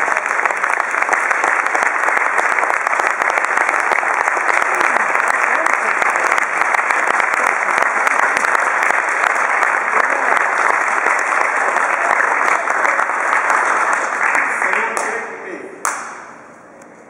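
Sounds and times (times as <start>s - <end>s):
audience applauding: 0.0s - 16.1s.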